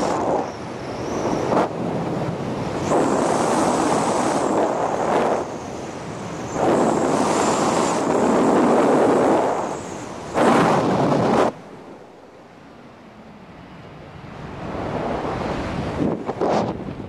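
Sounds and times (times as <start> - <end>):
wind gusts on microphone: 0.0 - 17.0.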